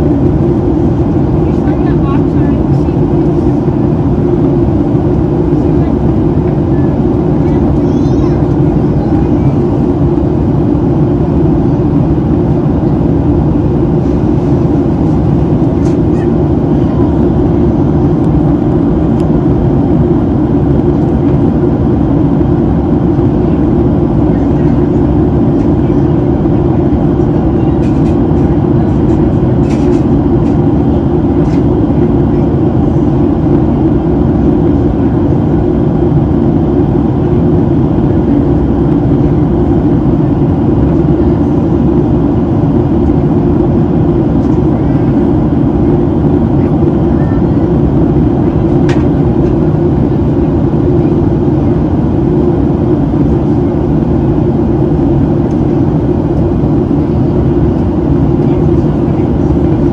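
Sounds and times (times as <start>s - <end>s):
airplane cabin engine rush: 0.0s - 59.9s.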